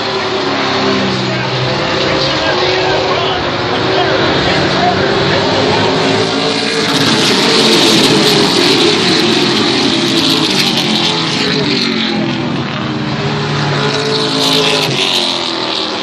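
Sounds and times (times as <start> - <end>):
racing truck engines: 0.0 - 16.0.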